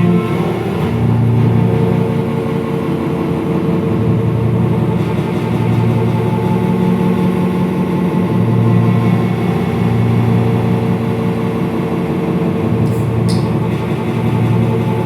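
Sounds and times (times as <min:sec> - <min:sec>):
low drone hum: 0:00.0 - 0:15.0.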